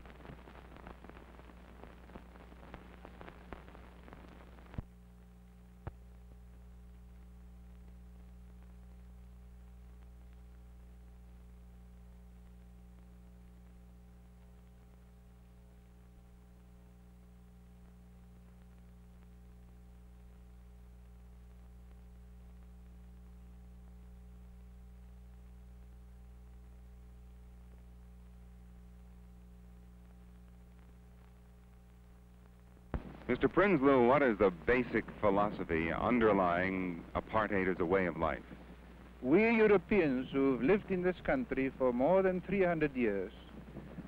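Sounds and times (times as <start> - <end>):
faint electrical hum with hiss: 0.0 - 44.0.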